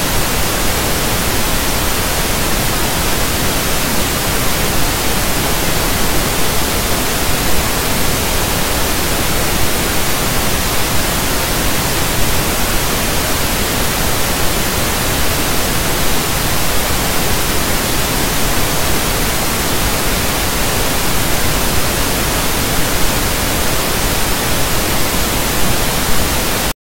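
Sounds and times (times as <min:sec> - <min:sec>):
loud static hiss: 0:00.0 - 0:26.8.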